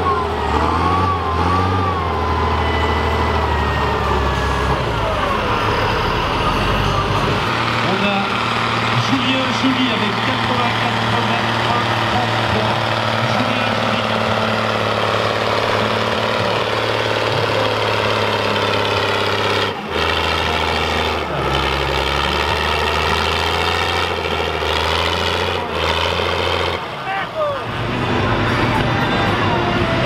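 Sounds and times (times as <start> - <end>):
tractor engine running hard: 0.0 - 30.0.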